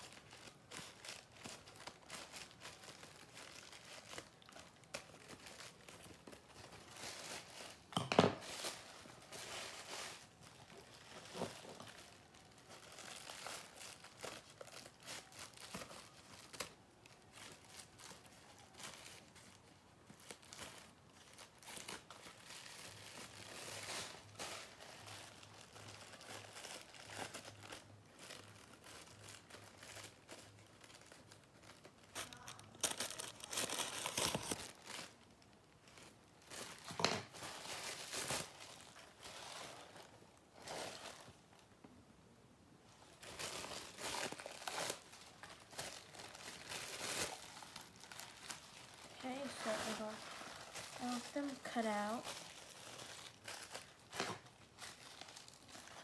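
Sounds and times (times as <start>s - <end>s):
paper rustling and crinkling: 0.0s - 41.6s, 42.9s - 56.0s.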